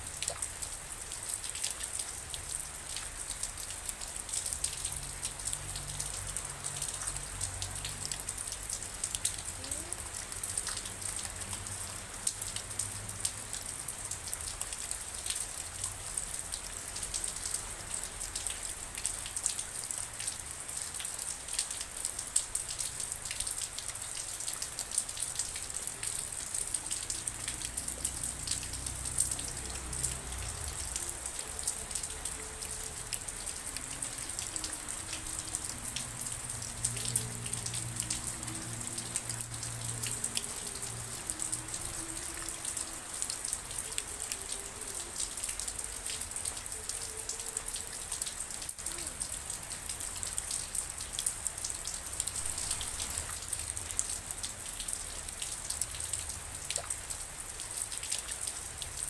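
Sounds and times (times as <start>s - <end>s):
rain falling: 0.0s - 59.0s
raindrops pattering on a surface: 0.0s - 59.0s.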